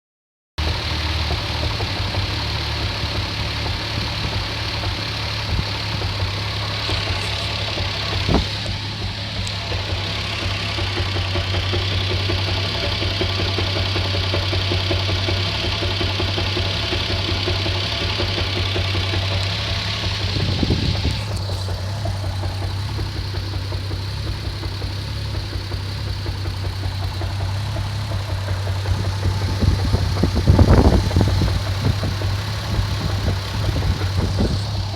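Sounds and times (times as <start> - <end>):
car engine idling: 0.6 - 34.9
engine knocking: 0.6 - 34.9.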